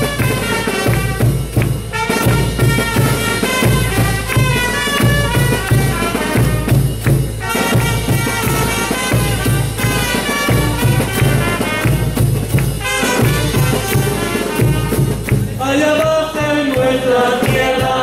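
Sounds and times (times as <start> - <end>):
fast drum beat: 0.0 - 18.0
festive band music: 0.0 - 18.0.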